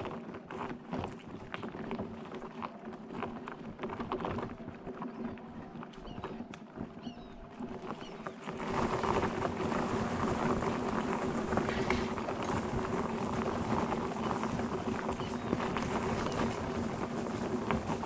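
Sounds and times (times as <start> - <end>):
wheels crunching on gravel: 0.0 - 18.0.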